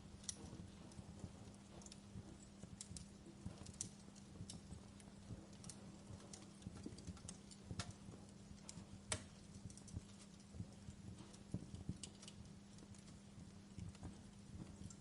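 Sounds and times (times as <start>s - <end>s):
faint steady hum: 0.0s - 15.0s
wood fire crackling and popping: 0.0s - 15.0s.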